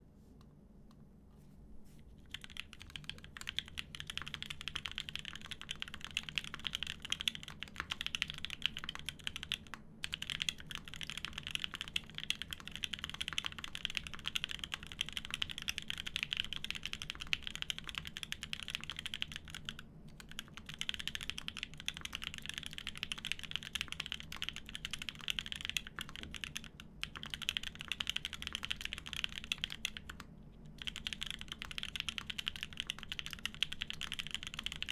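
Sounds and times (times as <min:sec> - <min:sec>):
mechanical keyboard typing: 0:02.3 - 0:34.9.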